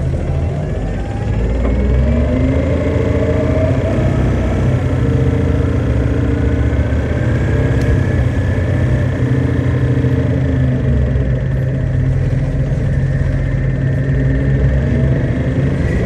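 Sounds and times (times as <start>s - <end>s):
bus diesel engine hum: 0.0s - 16.0s.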